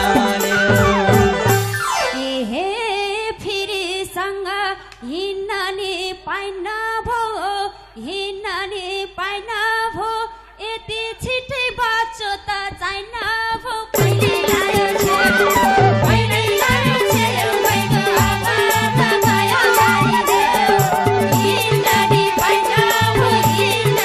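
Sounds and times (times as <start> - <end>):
woman singing into a microphone: 0.0 - 24.0.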